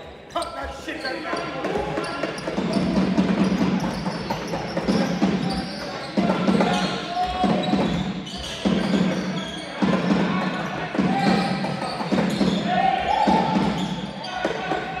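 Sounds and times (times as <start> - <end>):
basketballs bouncing on court floor: 0.4 - 15.0.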